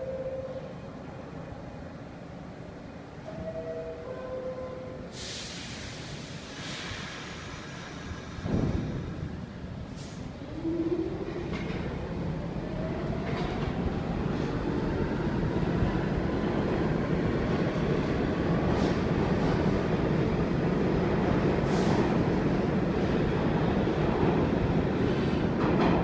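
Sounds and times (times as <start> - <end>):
subway train rumble: 0.0 - 26.0.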